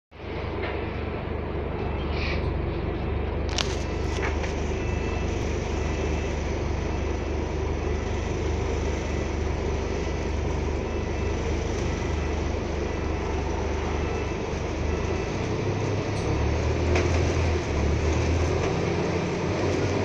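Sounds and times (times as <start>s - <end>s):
bus diesel engine droning: 0.2s - 20.0s.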